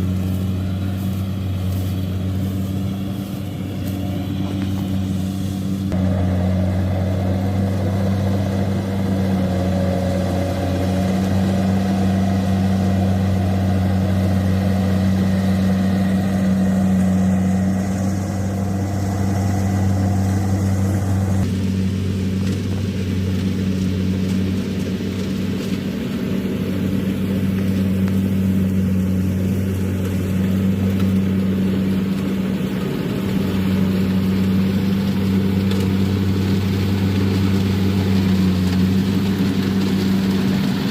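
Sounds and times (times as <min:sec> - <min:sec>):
combine harvester engine running: 0:00.0 - 0:40.9
higher machine noise: 0:00.0 - 0:40.9.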